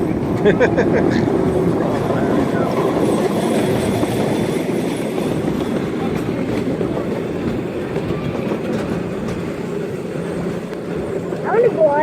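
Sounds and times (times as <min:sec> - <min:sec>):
miniature train rumbling on track: 0:00.0 - 0:12.0.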